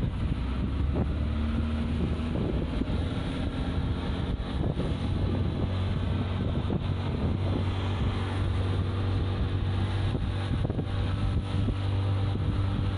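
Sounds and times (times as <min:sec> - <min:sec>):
boat engine humming: 0:00.0 - 0:12.9
wind buffeting microphone: 0:00.0 - 0:12.9.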